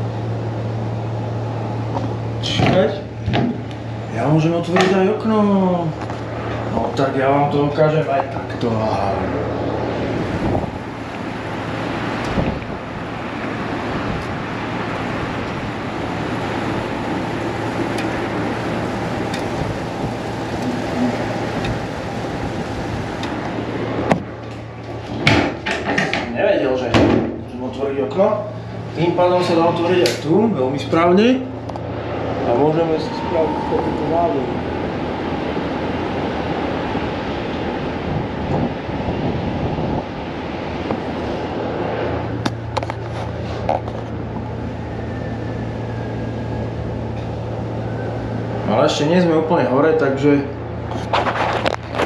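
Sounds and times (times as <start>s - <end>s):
distant city noise: 0.0s - 52.0s
steady low hum: 0.0s - 52.0s
wind rushing through window: 0.0s - 52.0s.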